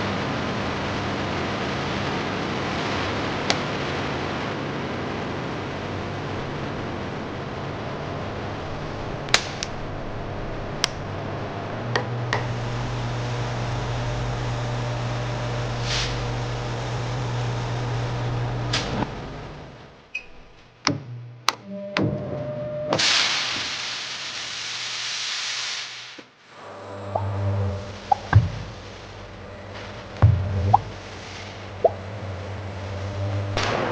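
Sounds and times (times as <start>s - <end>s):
machinery humming: 0.0s - 20.1s, 26.5s - 33.9s.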